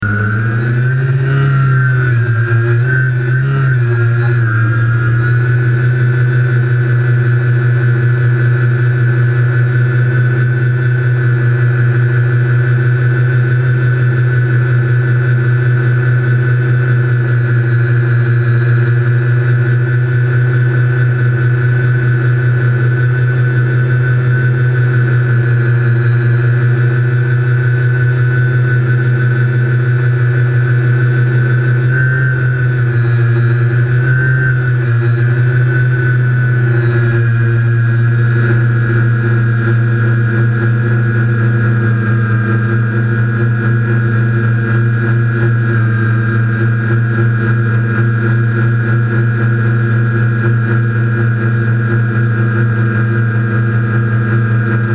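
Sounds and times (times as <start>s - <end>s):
quadcopter motors humming: 0.0s - 54.9s.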